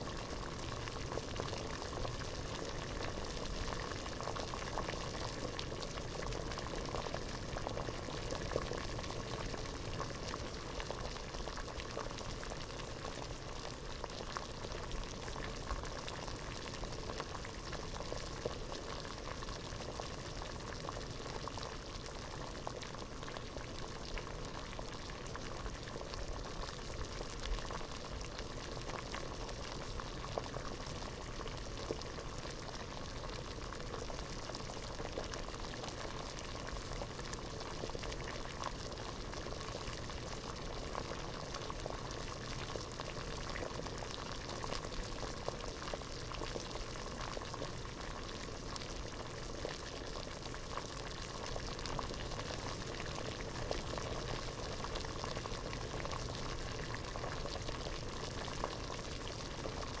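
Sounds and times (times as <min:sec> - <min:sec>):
water boiling in a pot: 0:00.0 - 1:00.0.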